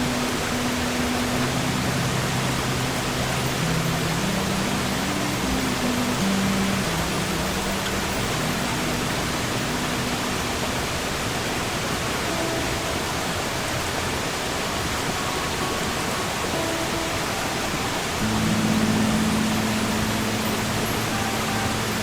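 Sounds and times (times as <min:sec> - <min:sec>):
faint held notes: 0:00.0 - 0:22.0
low steady tone: 0:00.0 - 0:22.0
sea surf rushing: 0:00.0 - 0:22.0.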